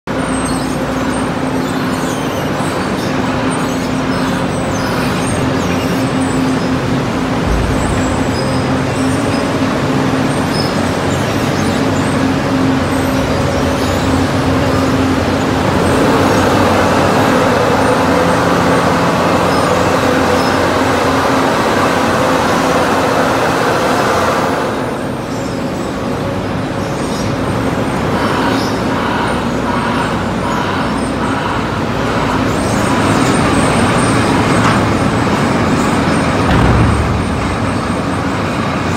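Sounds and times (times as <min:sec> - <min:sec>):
heavy diesel machines droning: 0:00.1 - 0:38.9.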